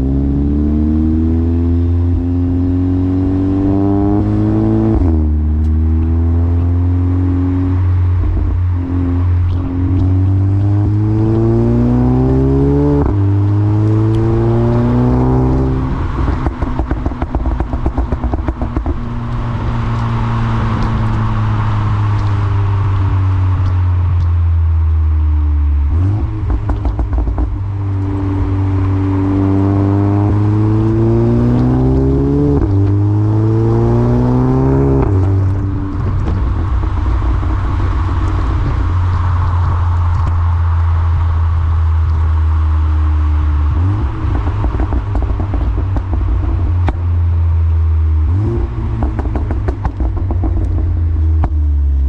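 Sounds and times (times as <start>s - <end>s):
car engine accelerating hard: 0.0s - 52.0s
exhaust crackles and pops: 4.4s - 52.0s.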